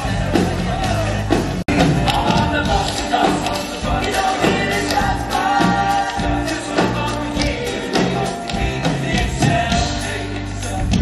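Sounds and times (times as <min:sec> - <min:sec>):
live band guitars and drums: 0:00.0 - 0:11.0
male ensemble singing: 0:00.0 - 0:11.0.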